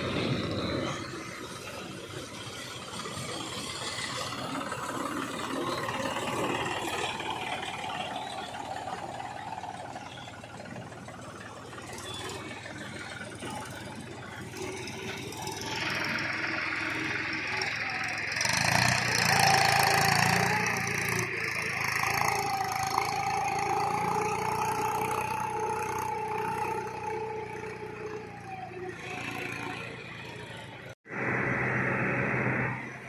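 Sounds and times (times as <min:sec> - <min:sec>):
heavy diesel machinery running: 0:00.0 - 0:33.0.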